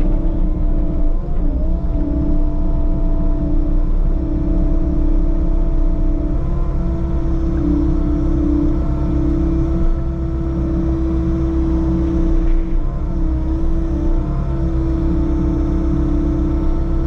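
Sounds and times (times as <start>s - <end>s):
constant machine whine: 0.0s - 17.0s
diesel engine rumble: 0.0s - 17.0s.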